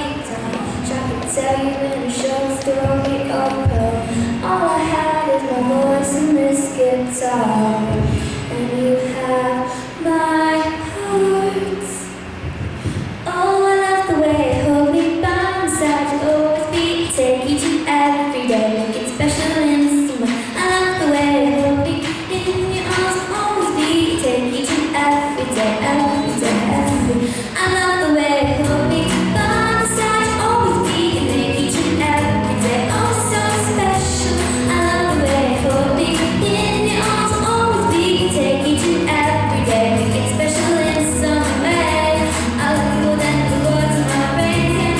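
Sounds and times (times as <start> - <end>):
woman singing: 0.0 - 12.2, 13.2 - 44.9
instrumental backing music: 0.0 - 44.9.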